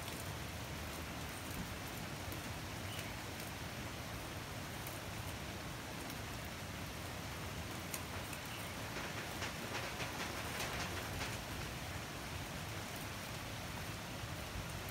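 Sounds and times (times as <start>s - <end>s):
rain on leafy vegetation: 0.0s - 14.9s.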